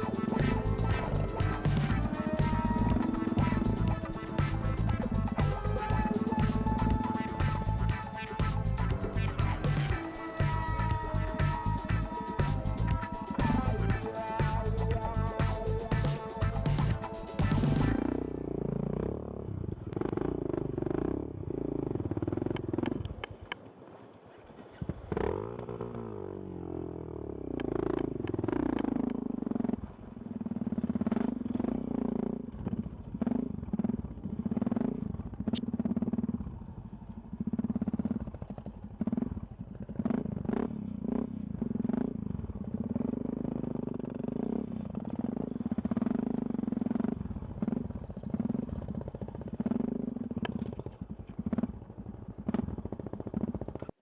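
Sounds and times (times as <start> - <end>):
motorcycle engine revving: 0.0 - 23.6, 24.6 - 53.9.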